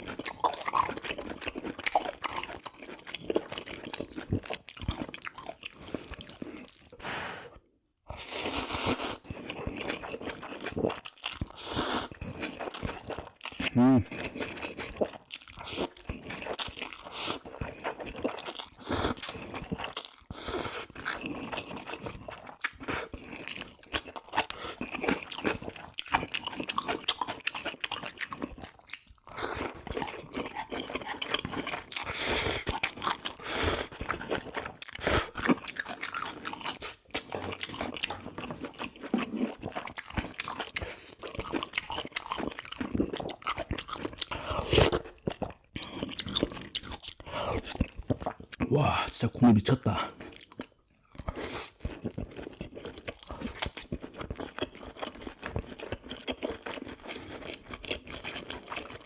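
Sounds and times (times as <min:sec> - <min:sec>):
chewing and crunching: 0:00.0 - 0:07.0, 0:08.1 - 0:59.0.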